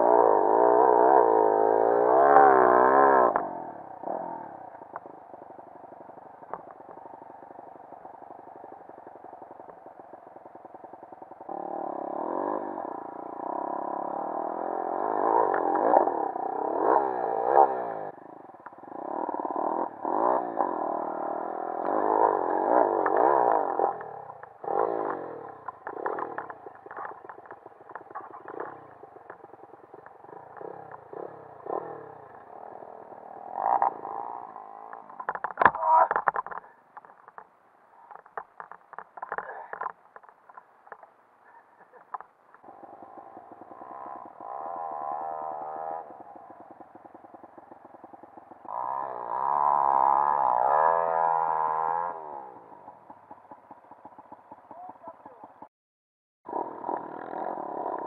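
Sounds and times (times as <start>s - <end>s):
motorbike engine revving: 0.0s - 37.4s, 41.4s - 53.0s, 56.5s - 58.0s.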